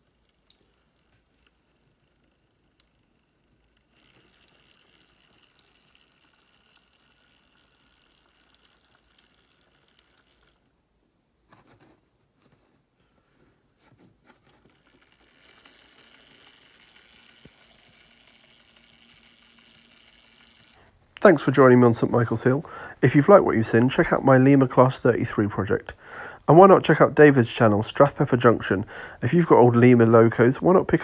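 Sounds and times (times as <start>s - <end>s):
model train motor whirring: 0.0s - 10.8s, 14.6s - 31.0s.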